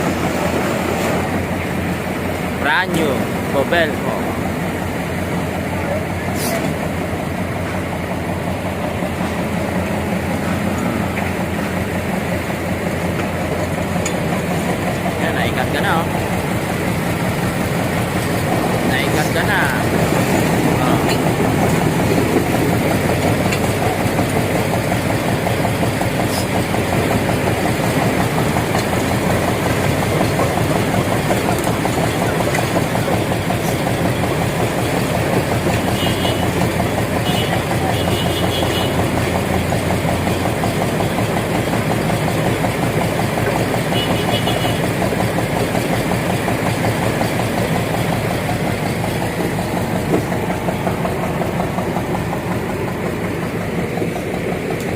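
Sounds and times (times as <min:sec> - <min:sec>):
large engine running: 0:00.0 - 0:54.9.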